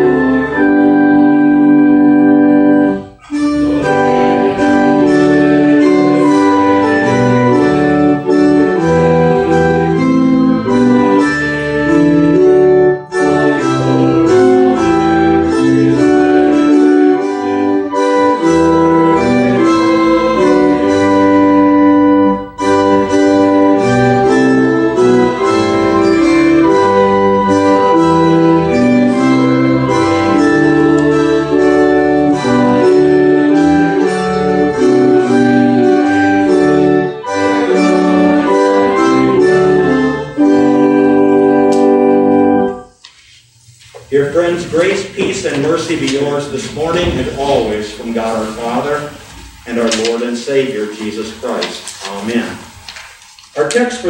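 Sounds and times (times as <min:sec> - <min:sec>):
church organ playing hymn: 0:00.0 - 0:54.0.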